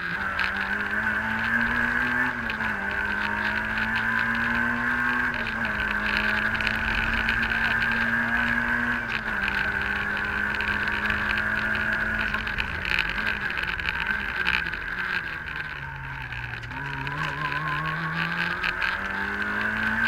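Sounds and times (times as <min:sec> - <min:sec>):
car engine revving: 0:00.0 - 0:20.0
road knocks: 0:00.0 - 0:20.0
steady high whine: 0:00.0 - 0:20.0.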